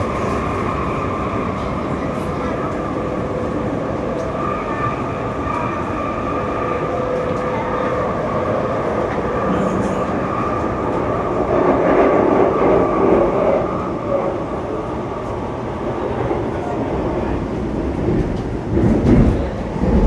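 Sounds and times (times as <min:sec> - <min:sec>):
metro train rumble: 0:00.0 - 0:20.0
train traction whine: 0:00.0 - 0:20.0.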